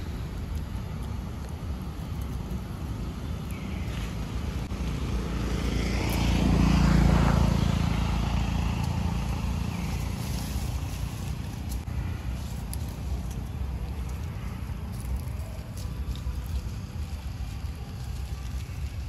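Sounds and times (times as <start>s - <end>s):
passing engine drone: 3.4s - 19.0s.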